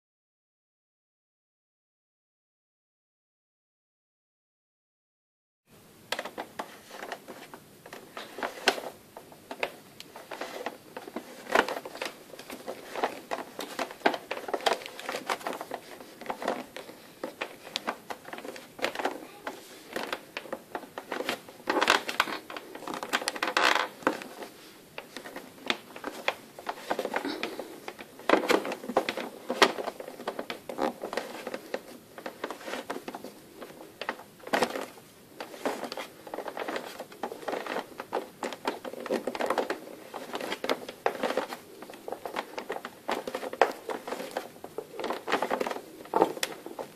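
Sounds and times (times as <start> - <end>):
cable clicking and rubbing on plastic: 6.1 - 46.9.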